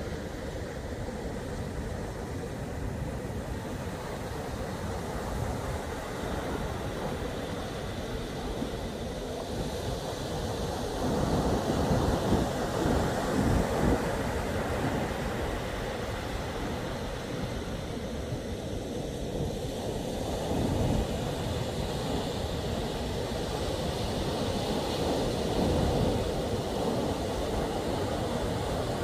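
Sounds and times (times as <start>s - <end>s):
surf washing: 0.0s - 29.0s
wind buffeting microphone: 0.0s - 29.0s.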